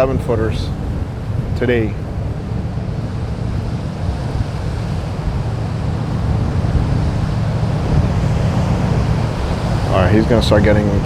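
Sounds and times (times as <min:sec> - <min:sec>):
surf rushing: 0:00.0 - 0:11.0
wind buffeting microphone: 0:00.0 - 0:11.0.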